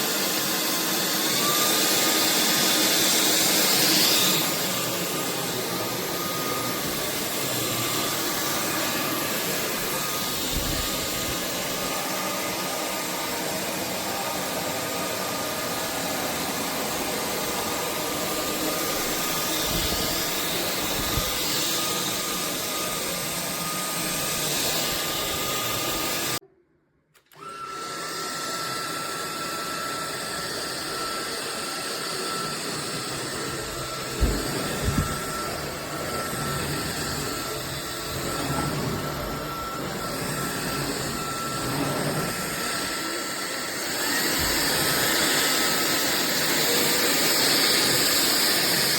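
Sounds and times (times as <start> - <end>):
stick vacuum whine: 0.0 - 26.4, 27.2 - 48.9.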